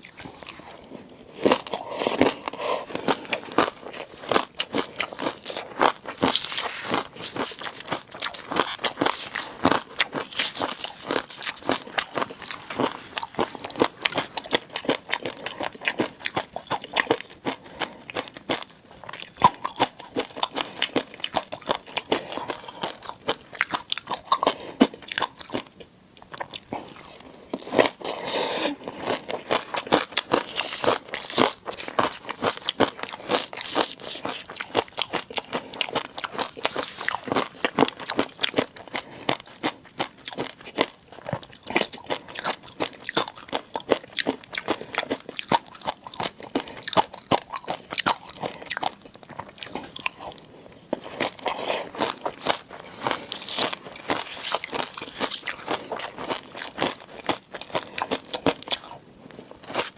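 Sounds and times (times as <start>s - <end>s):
wet chewing and crunching: 0.0s - 59.9s.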